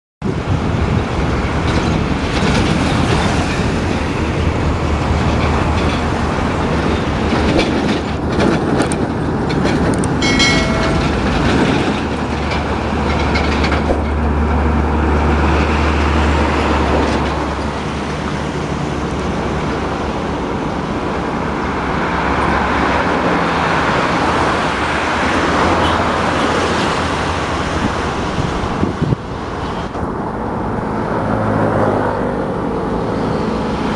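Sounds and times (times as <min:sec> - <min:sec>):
trucks passing on highway: 0:00.2 - 0:33.9.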